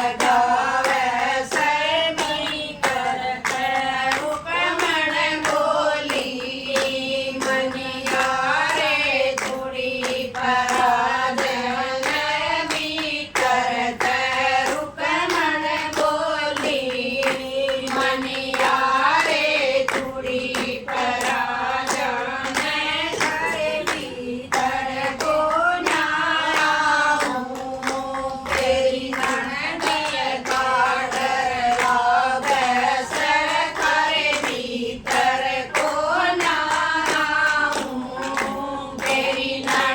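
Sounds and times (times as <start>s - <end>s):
rhythmic hand clapping: 0.0s - 39.9s
women singing in chorus: 0.0s - 39.9s.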